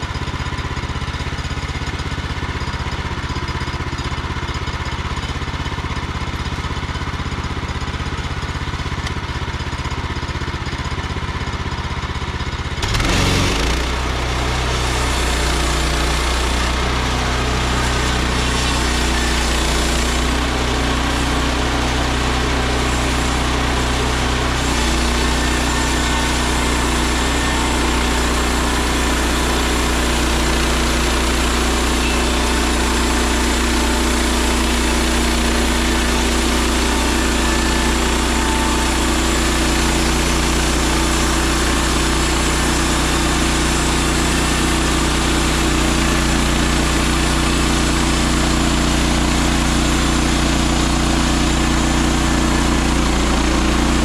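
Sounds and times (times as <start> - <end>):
gasoline engine idling and revving: 0.0 - 54.0.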